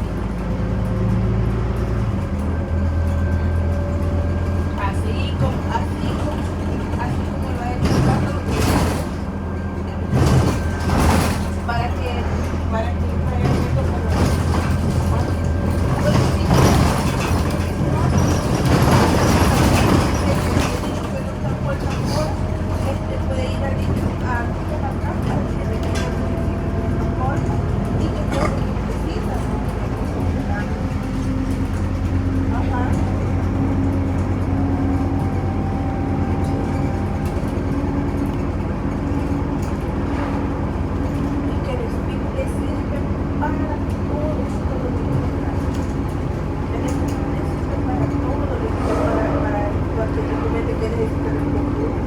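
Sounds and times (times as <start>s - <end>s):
bus engine humming: 0.0s - 52.0s
tyre and road noise: 0.0s - 52.0s.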